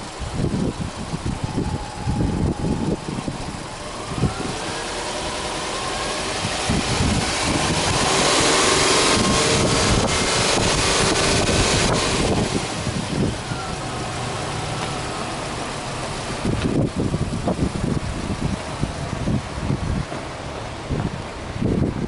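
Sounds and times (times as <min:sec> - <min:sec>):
rising whine: 0:00.0 - 0:20.0
car engine running: 0:00.0 - 0:22.0
wind buffeting microphone: 0:00.0 - 0:22.0.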